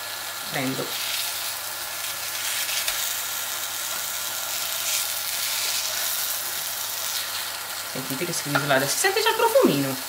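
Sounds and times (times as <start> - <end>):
burgers sizzling in a pan: 0.0 - 10.0.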